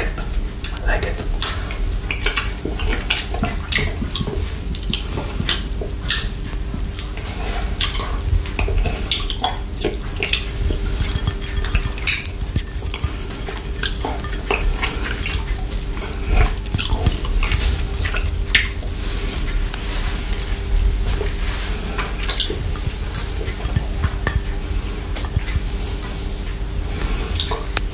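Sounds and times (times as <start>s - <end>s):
steady low hum: 0.0s - 27.9s
wet licking and sucking sounds: 0.6s - 27.9s.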